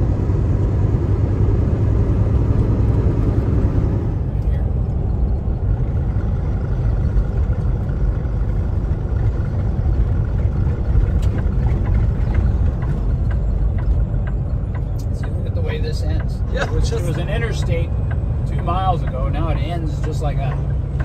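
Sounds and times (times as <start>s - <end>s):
truck engine and tyre rumble: 0.0s - 21.0s.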